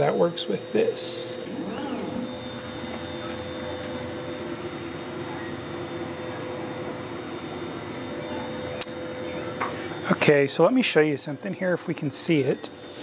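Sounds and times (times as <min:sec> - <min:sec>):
laser engraver motor hum: 0:00.0 - 0:13.0
steady high tones: 0:00.0 - 0:13.0.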